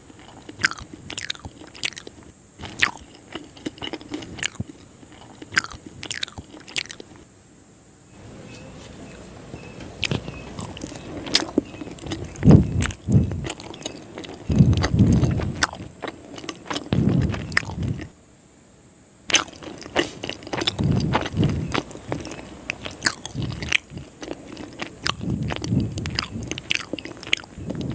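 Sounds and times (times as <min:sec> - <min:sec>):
wet chewing: 0:00.0 - 0:07.2, 0:10.0 - 0:18.1, 0:19.3 - 0:27.9
lip and mouth clicks: 0:00.1 - 0:07.2, 0:10.0 - 0:18.1, 0:19.3 - 0:27.9.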